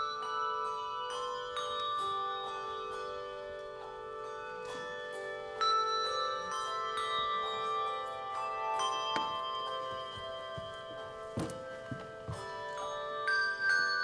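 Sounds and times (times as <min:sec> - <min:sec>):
handbells ringing: 0:00.0 - 0:14.0.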